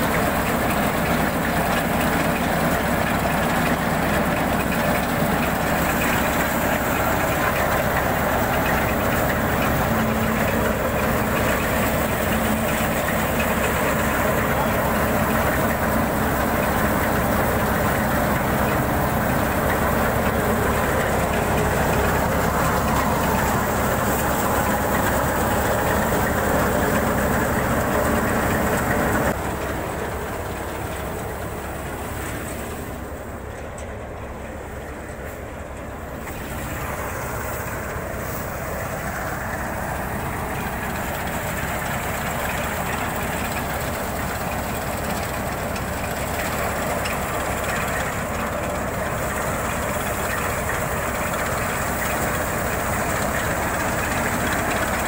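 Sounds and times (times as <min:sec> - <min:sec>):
threshing machine rattling: 0:00.0 - 0:55.0.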